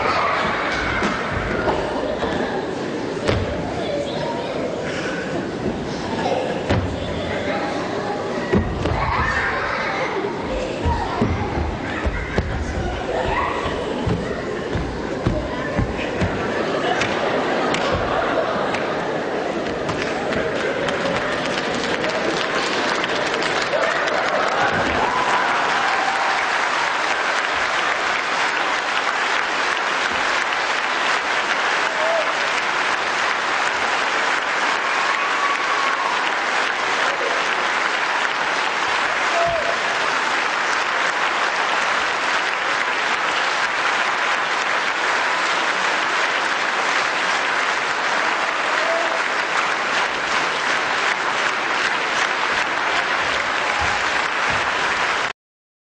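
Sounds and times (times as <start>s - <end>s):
audience applauding: 8.7s - 55.3s.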